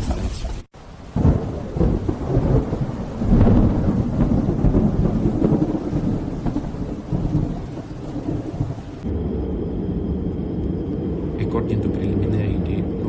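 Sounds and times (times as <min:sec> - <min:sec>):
steady rain: 0:00.0 - 0:13.0
rolling thunder: 0:00.8 - 0:13.0.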